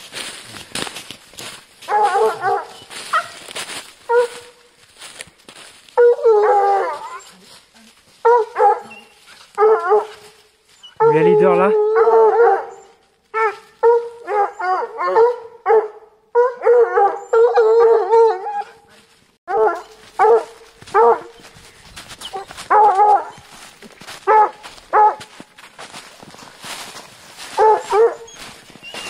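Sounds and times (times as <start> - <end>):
rustling in brush and snow: 0.0 - 15.0, 18.3 - 29.0
hounds yelping: 1.8 - 18.9, 19.5 - 29.0.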